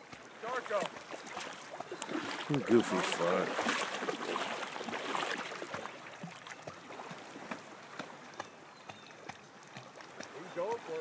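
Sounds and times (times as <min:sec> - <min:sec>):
lake water lapping: 0:00.0 - 0:11.0
small splashes and drips: 0:00.0 - 0:11.0.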